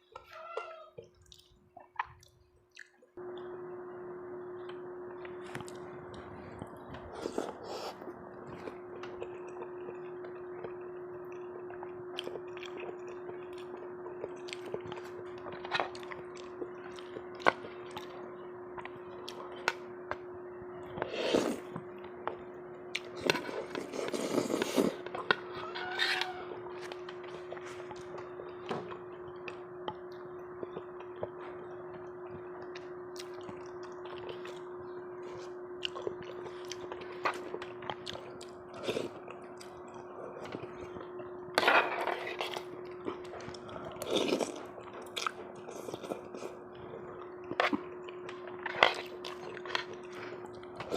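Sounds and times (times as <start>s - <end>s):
person chewing: 1.0s - 3.0s, 4.6s - 20.2s, 20.8s - 25.5s, 26.7s - 50.9s
steady hum: 1.3s - 50.9s.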